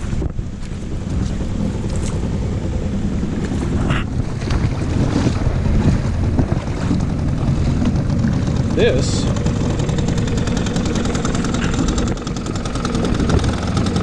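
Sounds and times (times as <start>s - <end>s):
outboard motor running: 0.0s - 14.0s
wind buffeting microphone: 0.0s - 14.0s.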